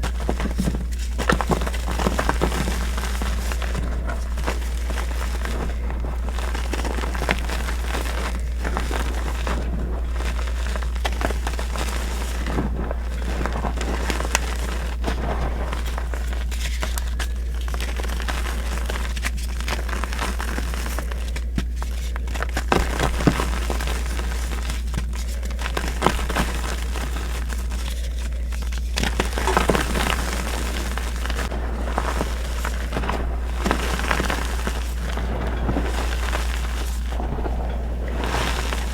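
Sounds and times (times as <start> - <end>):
chalk being crushed: 0.0 - 38.9
constant low hum: 0.0 - 38.9.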